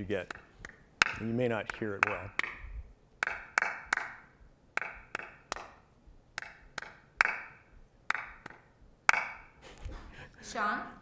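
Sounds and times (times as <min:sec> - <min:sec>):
hand claps: 0:00.2 - 0:09.5.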